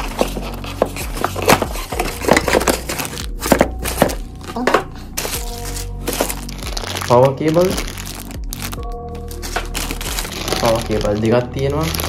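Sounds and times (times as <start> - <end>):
plastic crinkling: 0.0 - 12.0.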